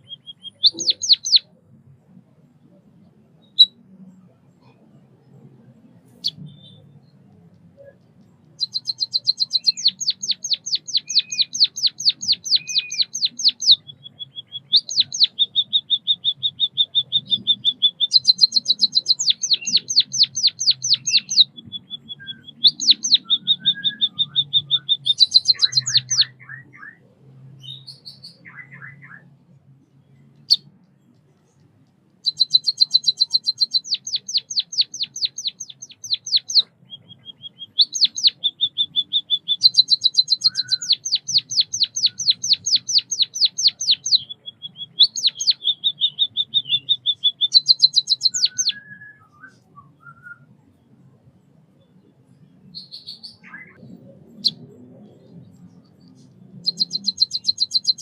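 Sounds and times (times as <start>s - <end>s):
bird singing high ticks: 0.0s - 1.6s, 2.6s - 26.3s, 29.9s - 49.7s, 54.4s - 58.0s
soft low bird calls: 0.0s - 58.0s.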